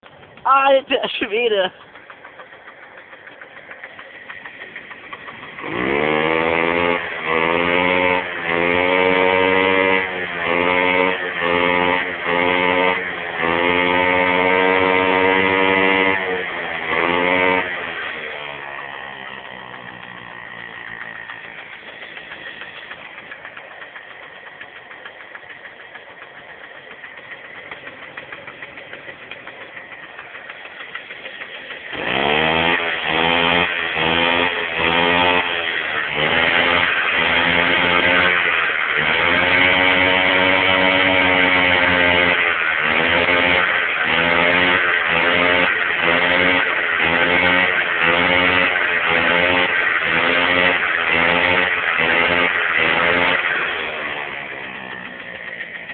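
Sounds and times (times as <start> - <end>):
moped engine idling and revving: 0.0 - 55.9.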